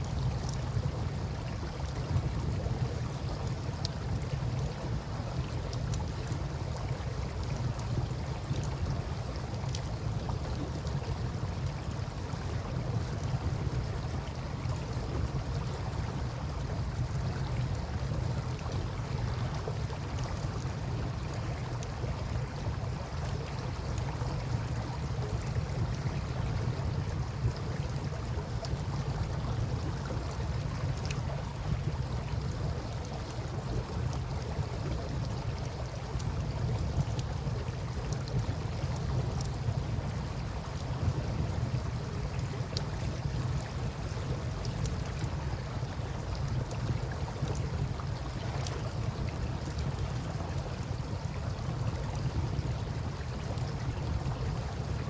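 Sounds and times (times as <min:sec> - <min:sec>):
campfire crackling: 0:00.0 - 0:26.2, 0:26.9 - 0:53.9
river water flowing: 0:00.0 - 0:55.0.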